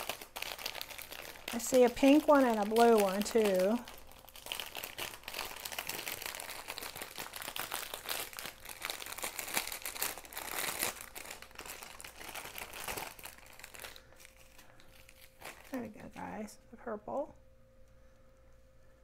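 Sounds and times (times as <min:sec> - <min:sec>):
plastic bags crinkling: 0:00.0 - 0:16.3.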